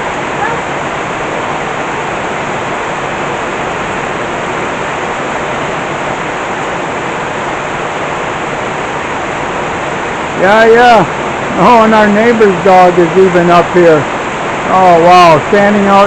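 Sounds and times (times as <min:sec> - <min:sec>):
heavy rain downpour: 0:00.0 - 0:16.0.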